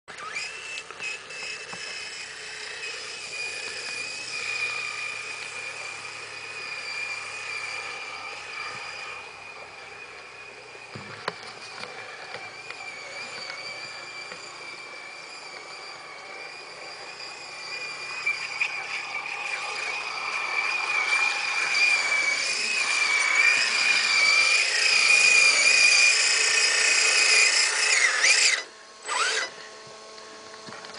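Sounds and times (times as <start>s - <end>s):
electric motor whining: 0.1s - 30.9s.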